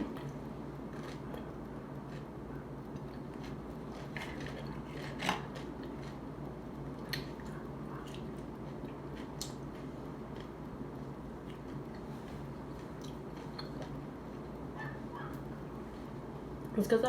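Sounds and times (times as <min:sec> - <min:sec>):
crunchy food chewing: 0:00.0 - 0:16.2
steady low hum: 0:00.0 - 0:17.0.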